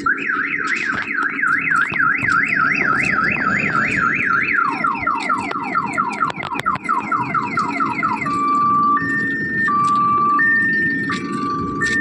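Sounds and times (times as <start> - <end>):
electronic alarm siren warbling: 0.0 - 12.0.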